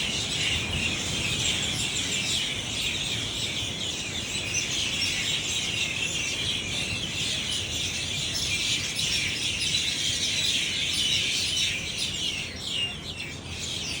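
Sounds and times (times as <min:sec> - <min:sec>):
chorus of small birds chirping: 0:00.0 - 0:14.0.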